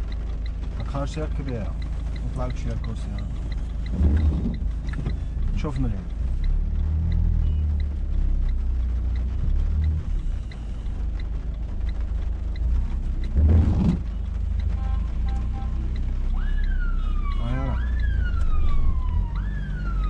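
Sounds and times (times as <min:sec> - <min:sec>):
faint regular ticks: 0:00.0 - 0:18.6
car engine and road rumble: 0:00.0 - 0:20.0.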